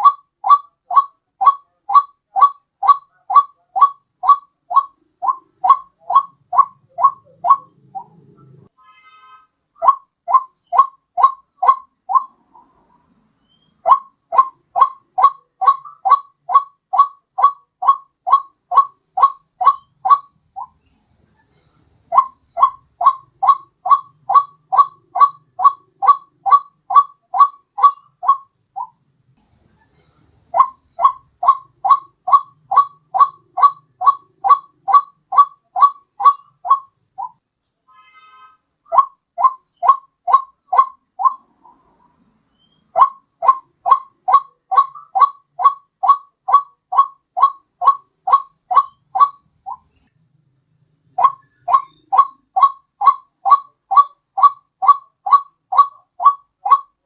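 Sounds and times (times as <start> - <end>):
waterhen calls: 0.0 - 9.1, 9.8 - 20.8, 22.1 - 29.0, 30.5 - 50.0, 51.1 - 57.0.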